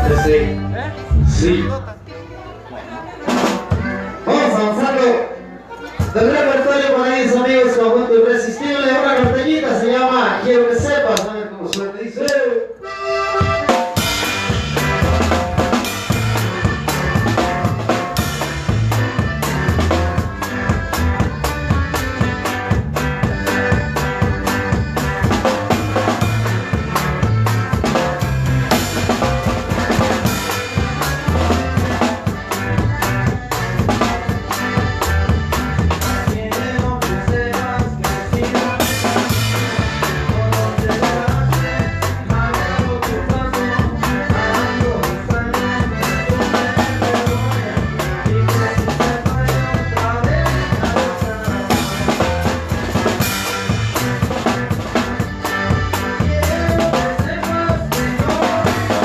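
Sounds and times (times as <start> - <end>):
drum kit beat: 0.0 - 1.9, 3.2 - 4.8, 10.8 - 59.0
accordion: 0.0 - 59.0.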